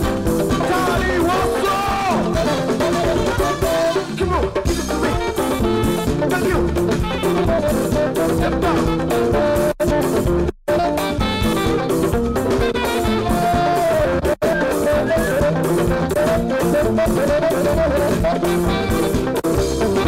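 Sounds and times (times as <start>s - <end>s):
drums: 0.0s - 20.0s
guitar: 0.0s - 20.0s
saxophone and trumpet horns: 0.0s - 20.0s.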